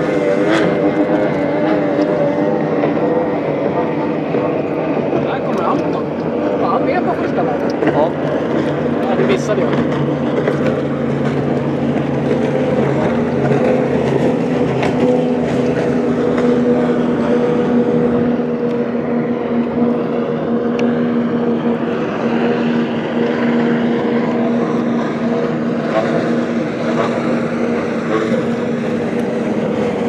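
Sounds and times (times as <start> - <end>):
outboard motor at high speed: 0.0 - 30.0.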